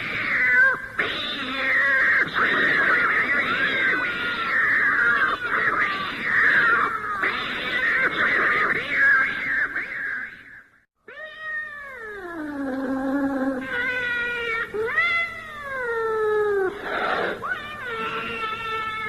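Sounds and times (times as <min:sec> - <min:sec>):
cat yowling: 0:00.0 - 0:10.3, 0:11.1 - 0:19.0.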